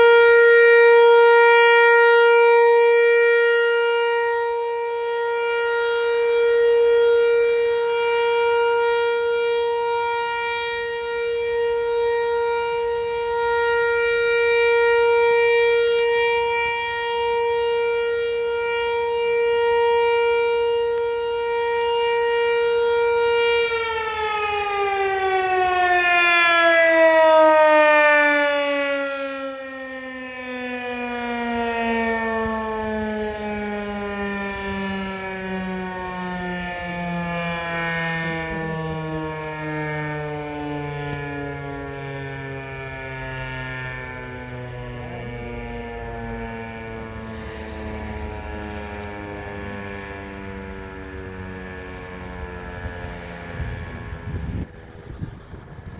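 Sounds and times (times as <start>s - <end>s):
tornado warning siren: 0.0s - 55.9s.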